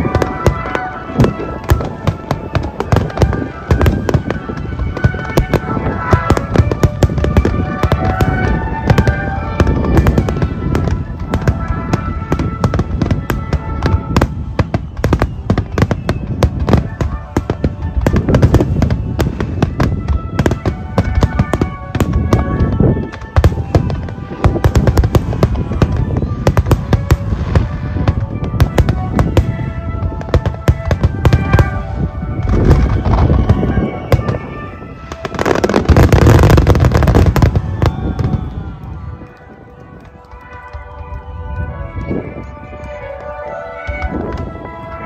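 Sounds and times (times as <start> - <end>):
fireworks bursting with crackles: 0.0 - 45.0
music playing: 0.0 - 45.0.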